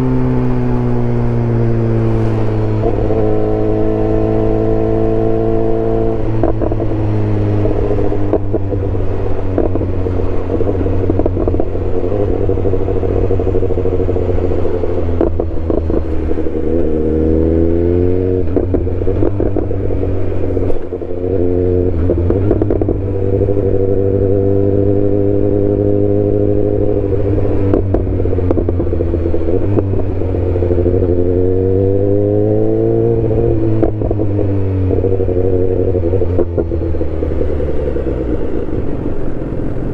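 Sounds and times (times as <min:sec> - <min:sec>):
motorcycle engine running loudly: 0:00.0 - 0:39.9.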